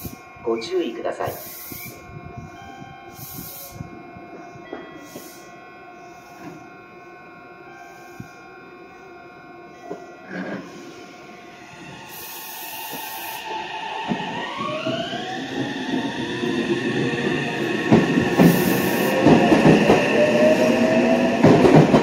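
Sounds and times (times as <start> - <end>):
electric train pulling out: 0.0 - 22.0
traction motor whine rising: 0.0 - 22.0.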